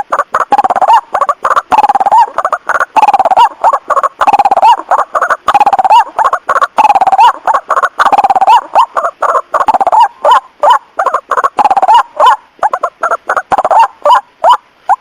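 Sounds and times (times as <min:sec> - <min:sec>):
bird call notes fast rising and falling: 0:00.0 - 0:15.0.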